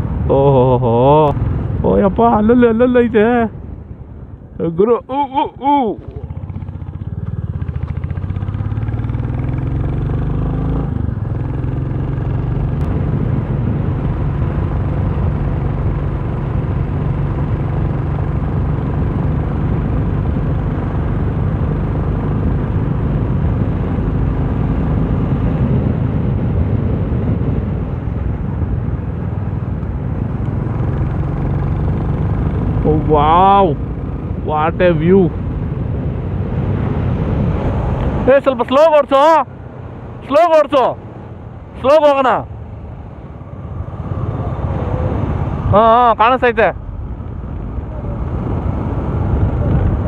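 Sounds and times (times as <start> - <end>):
motorcycle engine: 0.0 - 50.0
wind and road noise: 0.0 - 50.0.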